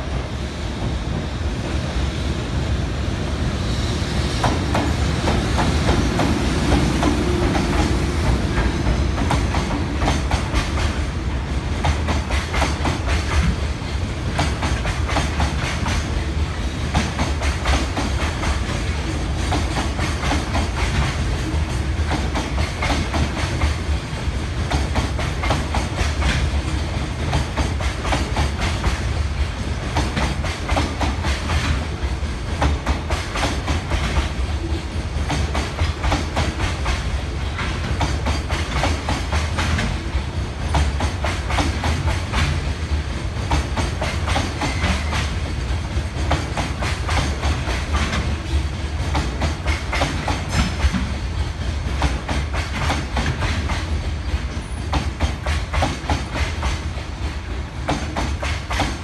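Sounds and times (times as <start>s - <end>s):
train wheels clacking on rail joints: 4.2s - 59.0s.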